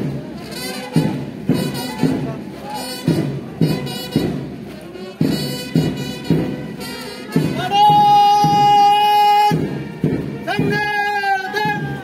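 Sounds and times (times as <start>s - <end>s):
bass drum beat: 0.0s - 12.0s
brass march music: 0.0s - 12.0s.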